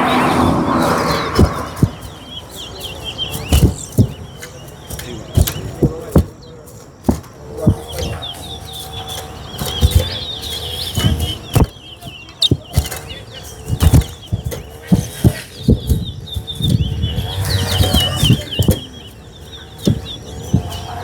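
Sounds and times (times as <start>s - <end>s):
finch twittering high chirps: 0.0s - 6.7s, 7.7s - 21.0s.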